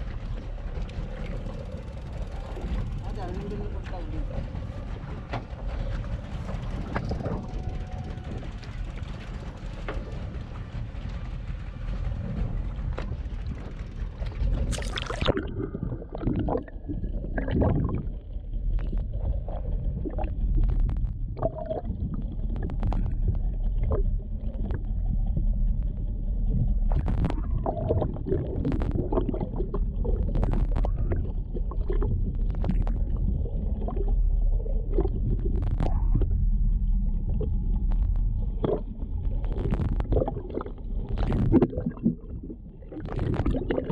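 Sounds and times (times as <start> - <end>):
sea water rushing: 0.0 - 20.6, 26.8 - 37.9, 38.5 - 43.9
muffled underwater rumble: 0.0 - 43.9.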